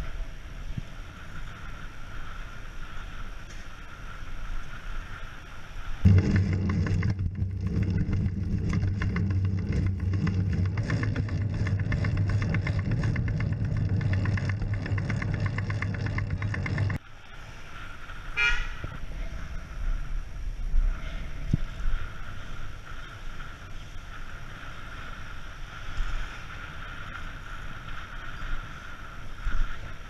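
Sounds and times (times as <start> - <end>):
wind noise: 0.0 - 30.0.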